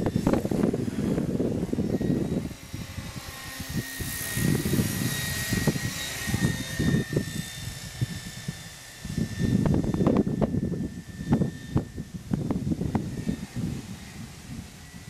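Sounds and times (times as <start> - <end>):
rc helicopter motor whine: 0.0 - 15.0
wind rumble on microphone: 0.0 - 15.0.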